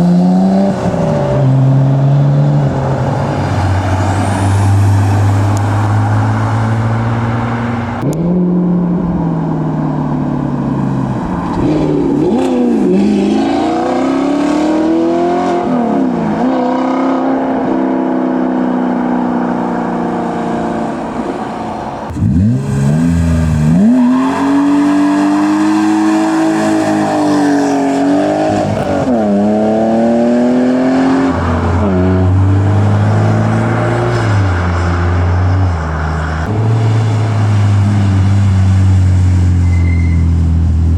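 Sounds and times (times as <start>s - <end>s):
car engines accelerating hard: 0.0s - 40.9s.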